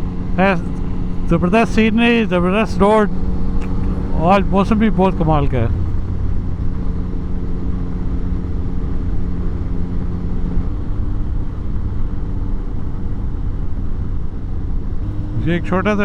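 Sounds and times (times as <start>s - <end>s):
motorcycle engine running: 0.0s - 13.9s, 14.6s - 16.0s
wind and road noise: 0.0s - 16.0s.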